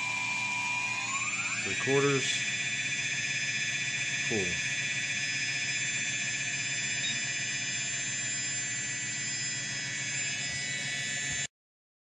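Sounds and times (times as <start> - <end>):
electric motors whining: 0.0 - 11.5.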